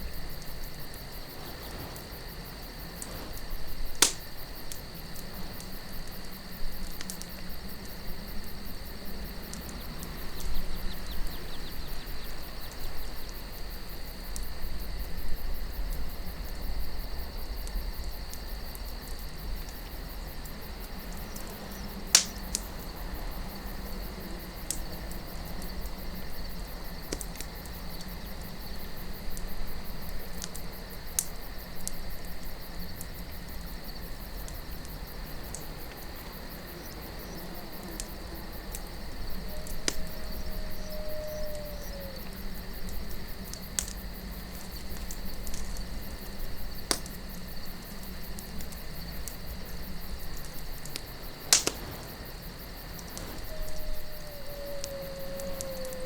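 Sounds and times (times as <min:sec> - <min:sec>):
campfire crackling and popping: 0:00.0 - 0:40.4, 0:42.2 - 0:56.0
crickets chirring: 0:00.0 - 0:56.0
low wind rumble: 0:00.0 - 0:56.0.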